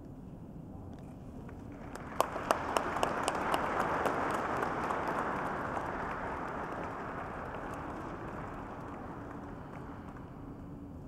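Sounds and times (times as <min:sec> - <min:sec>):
audience applauding: 0:01.7 - 0:10.7.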